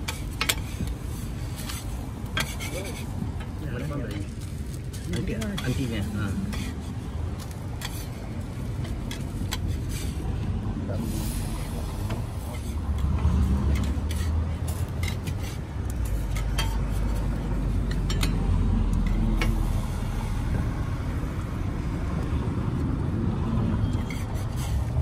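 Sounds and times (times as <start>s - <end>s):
metal utensils scraping on griddle: 0.0s - 19.9s, 23.8s - 25.0s.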